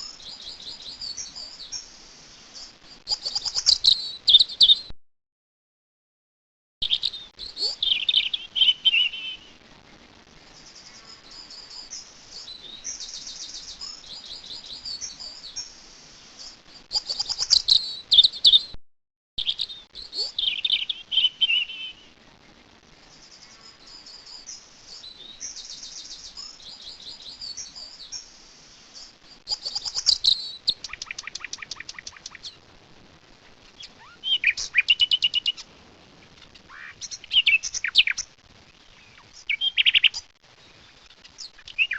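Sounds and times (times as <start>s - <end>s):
songbird singing: 0.0s - 4.9s, 6.8s - 9.6s, 10.4s - 18.8s, 19.4s - 22.2s, 23.0s - 32.6s, 33.8s - 41.9s.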